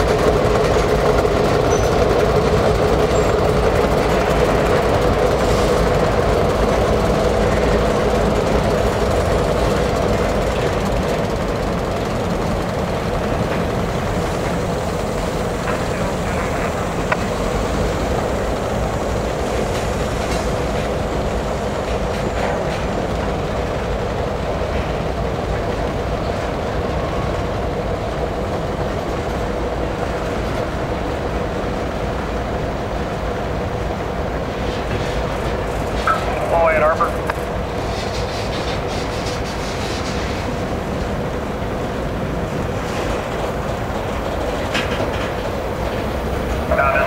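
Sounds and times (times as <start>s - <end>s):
wheels clicking over rail joints: 0.0s - 27.2s, 34.6s - 47.0s
steel wheels rumbling on rails: 0.0s - 47.0s.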